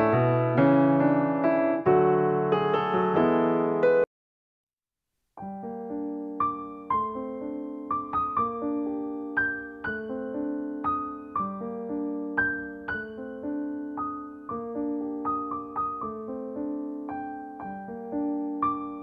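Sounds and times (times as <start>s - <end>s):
gentle piano melody: 0.0s - 4.1s, 5.4s - 19.0s.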